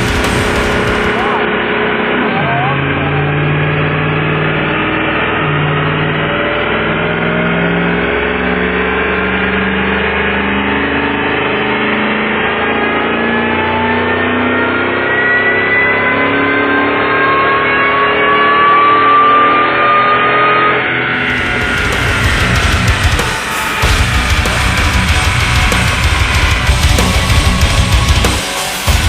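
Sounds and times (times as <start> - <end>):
engine under load on dyno: 0.0 - 29.0.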